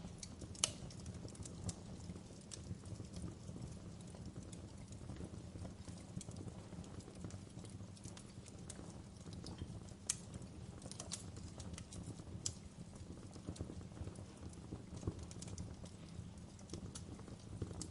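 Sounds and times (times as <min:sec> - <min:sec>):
logs crackling and popping: 0:00.0 - 0:17.9
low rumble of flames: 0:00.0 - 0:17.9.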